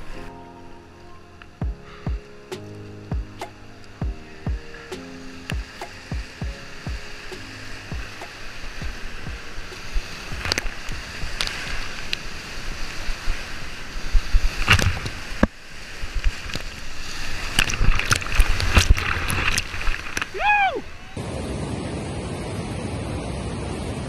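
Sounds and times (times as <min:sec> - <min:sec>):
water splashes: 0:00.0 - 0:21.2
whitewater rushing: 0:00.0 - 0:24.0.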